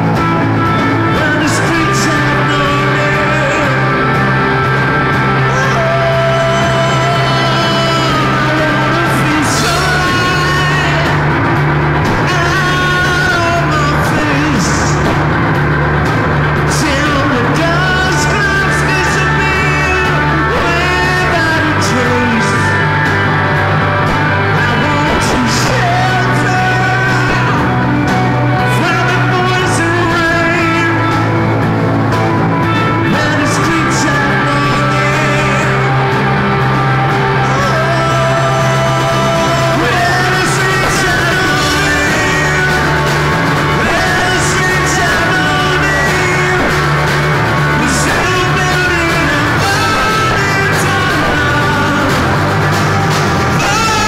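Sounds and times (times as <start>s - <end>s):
person singing: 0.0s - 15.4s, 16.4s - 54.0s
drum kit: 0.0s - 54.0s
electric guitars: 0.0s - 54.0s.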